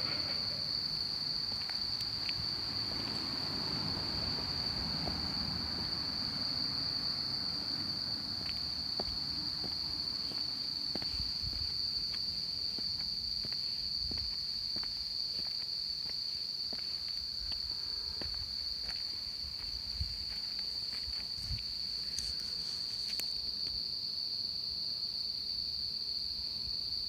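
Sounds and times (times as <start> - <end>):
insect chorus trilling: 0.0 - 27.0.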